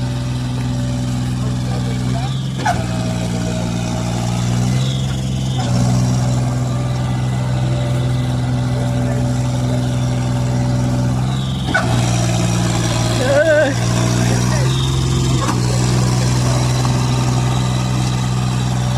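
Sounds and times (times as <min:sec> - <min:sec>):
tractor engine running: 0:00.0 - 0:18.9.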